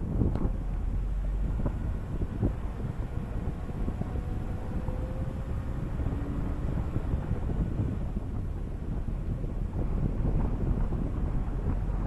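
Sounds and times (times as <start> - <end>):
low road rumble: 0.0 - 12.0
wind buffeting microphone: 0.0 - 12.0.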